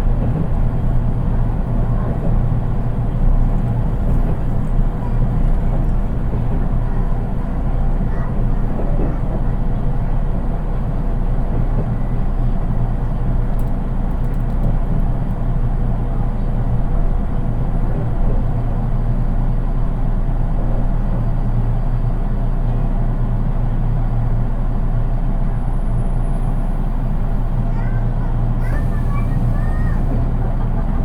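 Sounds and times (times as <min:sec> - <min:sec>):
train interior rumble: 0:00.0 - 0:31.0.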